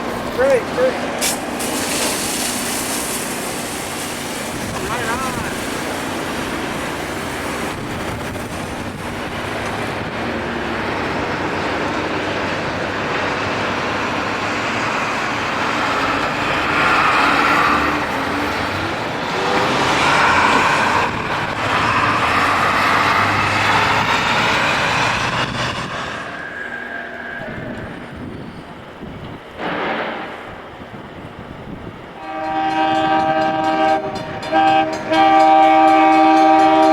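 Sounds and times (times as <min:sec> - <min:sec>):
rail grinding machine: 0:00.0 - 0:36.9.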